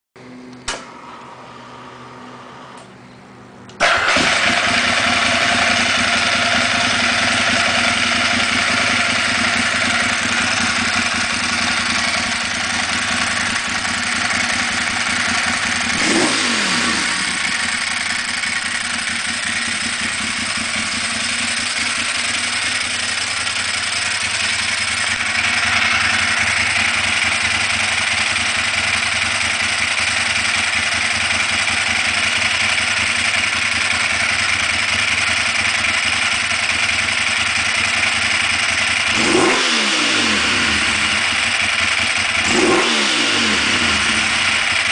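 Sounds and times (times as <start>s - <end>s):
motorcycle engine idling: 2.2s - 44.9s.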